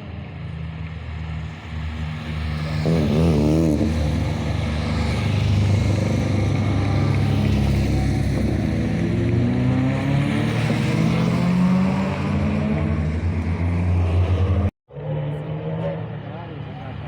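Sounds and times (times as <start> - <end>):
rally car engine revving: 1.7 - 17.0.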